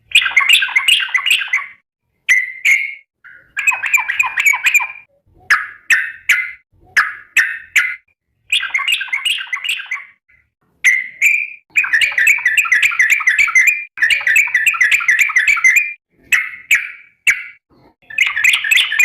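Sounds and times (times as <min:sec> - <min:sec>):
bulbul chattering song: 0:00.0 - 0:19.0.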